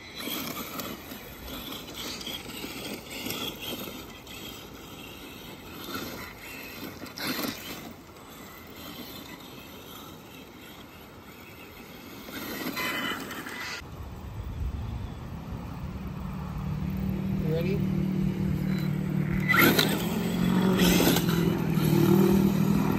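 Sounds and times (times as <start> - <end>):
tyres scraping dirt: 0.0 - 13.8, 16.9 - 22.9
toy car drivetrain whirring: 0.0 - 22.9.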